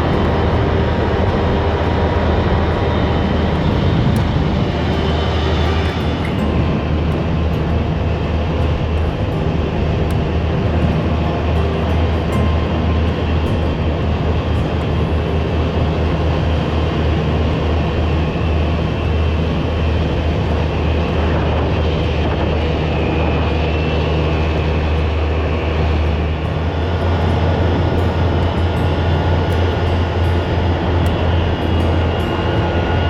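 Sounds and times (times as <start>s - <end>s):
utility vehicle engine running: 0.0s - 33.0s.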